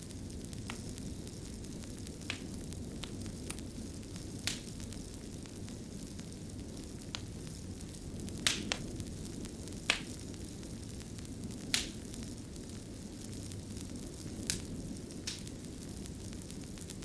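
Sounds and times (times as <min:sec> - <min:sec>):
fire burning with low rush: 0:00.0 - 0:17.0
fire crackling pops: 0:00.0 - 0:17.0.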